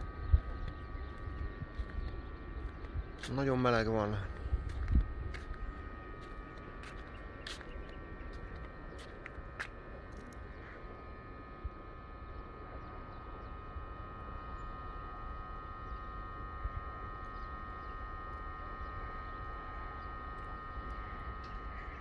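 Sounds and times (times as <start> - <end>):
high multi-tone hum: 0.0 - 22.0
steady low rumble: 0.0 - 22.0.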